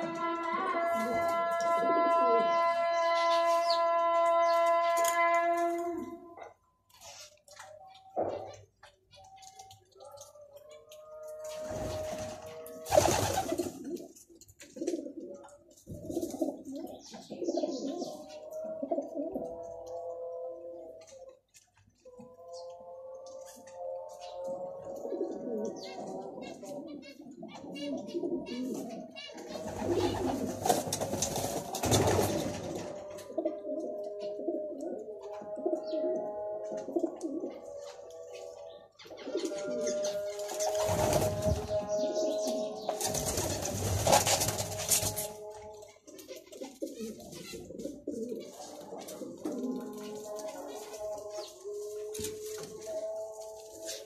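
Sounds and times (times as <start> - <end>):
pigeon cooing: 0.0 - 3.9, 4.7 - 54.0.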